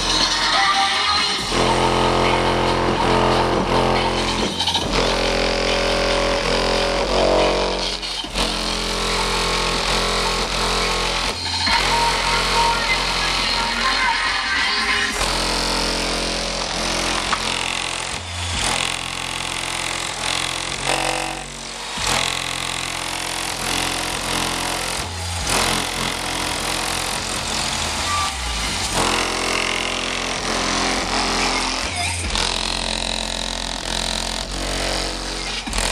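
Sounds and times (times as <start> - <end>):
bass-heavy music from subwoofer: 0.0 - 35.9.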